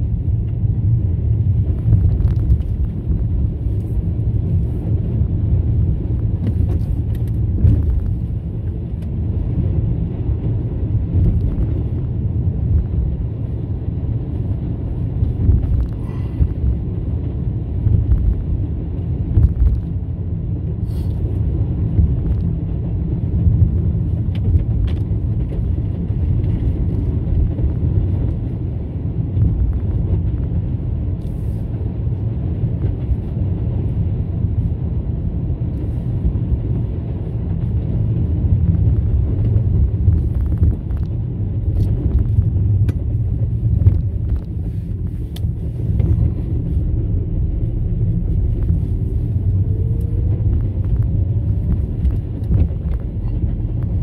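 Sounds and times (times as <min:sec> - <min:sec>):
car driving rumble: 0:00.0 - 0:54.0
tyre and engine road noise: 0:00.0 - 0:54.0.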